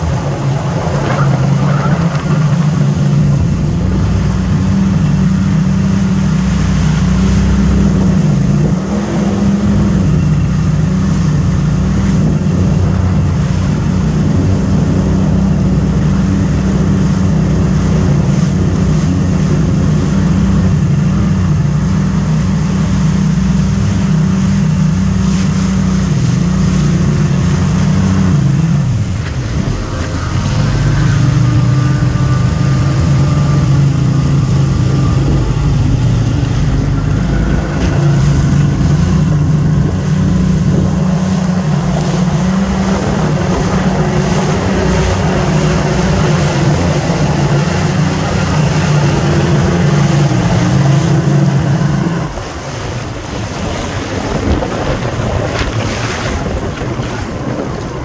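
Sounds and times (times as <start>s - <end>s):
water noise: 0.0s - 58.0s
watercraft engine droning: 0.0s - 58.0s.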